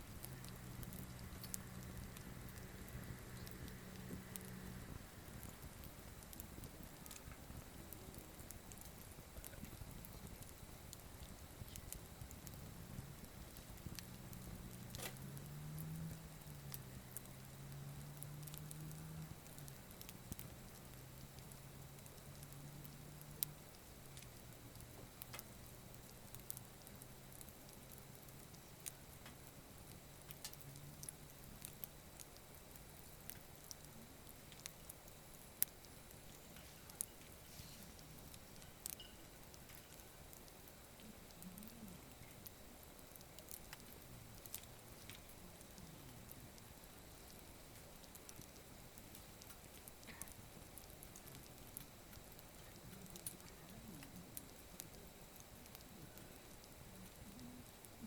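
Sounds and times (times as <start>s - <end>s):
campfire crackling: 0.0s - 58.0s
faint low hum: 0.0s - 58.0s
sharp pops of fire: 0.1s - 58.0s.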